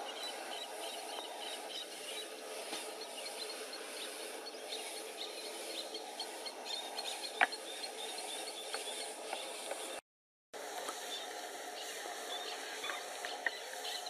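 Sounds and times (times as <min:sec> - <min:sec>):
steady swamp hiss: 0:00.0 - 0:10.0, 0:10.6 - 0:14.0.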